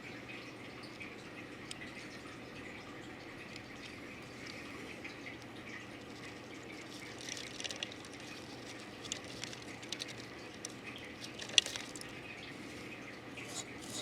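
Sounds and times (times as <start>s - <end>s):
small clicks and drips: 0.0s - 14.0s
water trickling: 0.0s - 14.0s.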